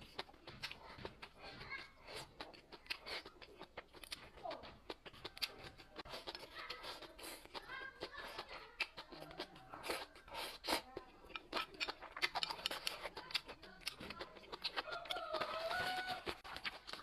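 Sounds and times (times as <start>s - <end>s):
person chewing and crunching: 0.0s - 17.0s.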